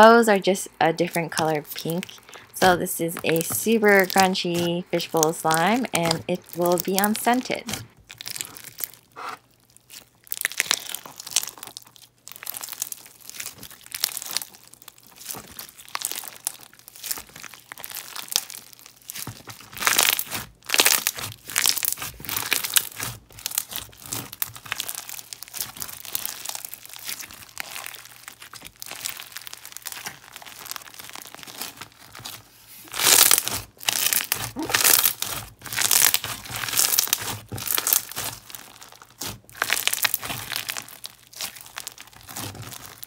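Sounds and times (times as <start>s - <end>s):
slime beads crunching: 0.0s - 43.0s.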